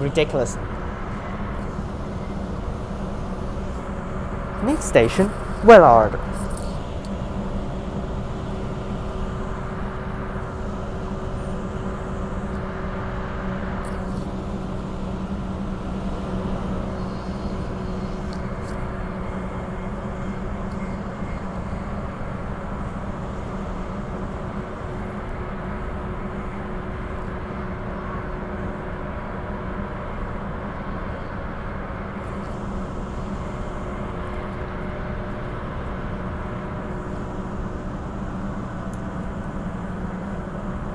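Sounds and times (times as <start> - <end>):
constant electric hum: 0.0 - 40.9.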